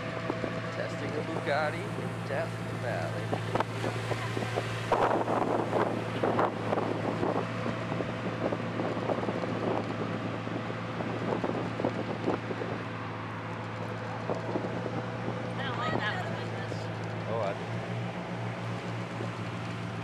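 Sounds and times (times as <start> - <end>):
wind buffeting microphone: 0.0 - 16.4
car engine idling: 0.0 - 20.0.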